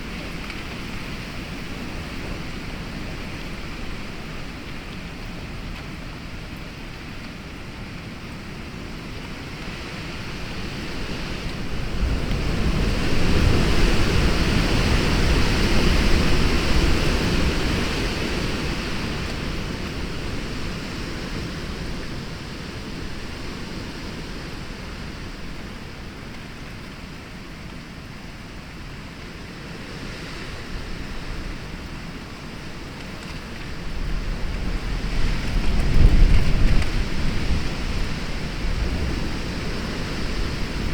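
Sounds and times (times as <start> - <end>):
gusting wind: 0.0 - 40.9
rain falling: 0.0 - 40.9.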